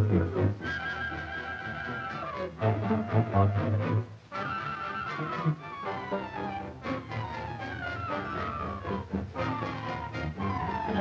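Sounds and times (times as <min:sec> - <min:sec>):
instrumental film score music: 0:00.0 - 0:11.0.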